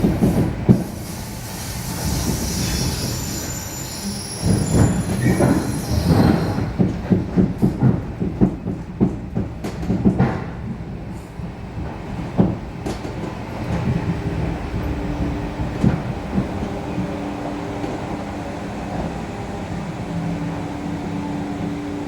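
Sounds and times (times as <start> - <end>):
train rumbling on board: 0.0 - 22.0.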